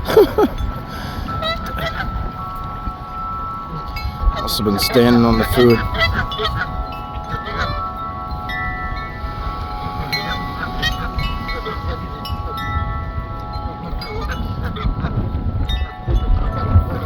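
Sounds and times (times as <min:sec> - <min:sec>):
wind chimes ringing: 0:00.0 - 0:17.0
wind rumble on microphone: 0:00.0 - 0:17.0.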